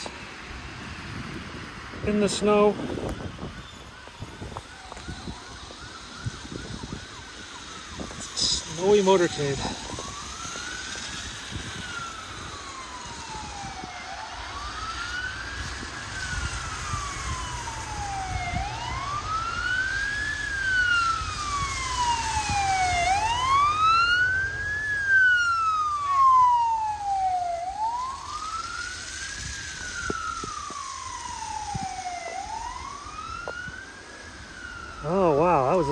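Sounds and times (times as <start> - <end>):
emergency siren wailing: 0.0 - 35.9
traffic rumble: 0.0 - 35.9.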